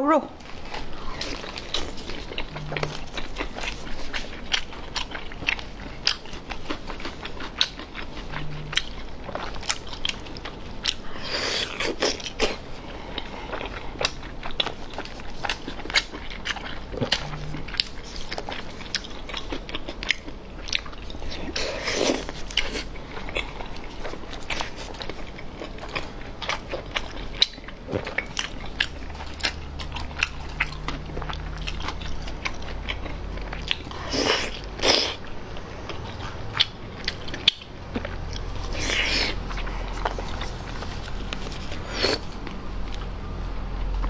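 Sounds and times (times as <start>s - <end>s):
close chewing with wet smacks: 0.4s - 43.1s.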